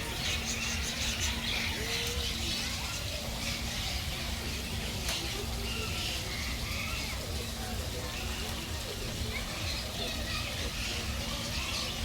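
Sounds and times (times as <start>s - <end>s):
birds chirping: 0.0s - 12.0s
faint distant voices: 0.0s - 12.0s.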